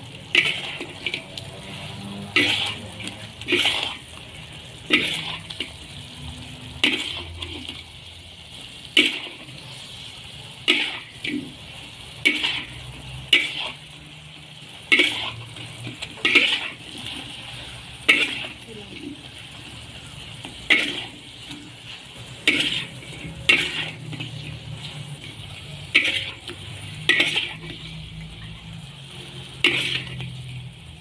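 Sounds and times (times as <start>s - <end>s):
food sizzling in pan: 0.0s - 31.0s
metal spatula scraping pan: 0.0s - 31.0s.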